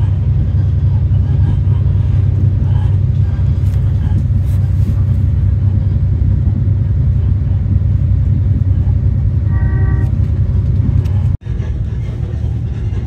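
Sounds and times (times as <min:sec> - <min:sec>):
railcar engine and wheels rumbling: 0:00.0 - 0:13.0.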